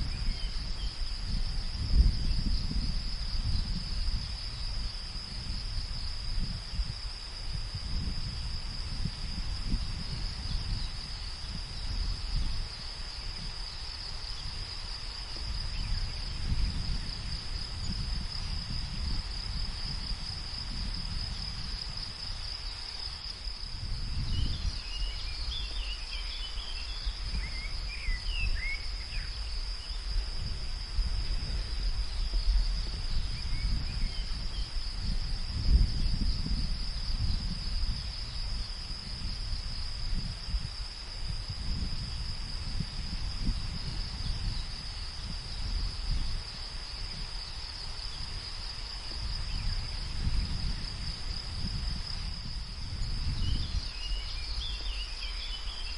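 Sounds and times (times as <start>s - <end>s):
gusting wind rumble: 0.0s - 55.9s
insects trilling: 0.0s - 55.9s.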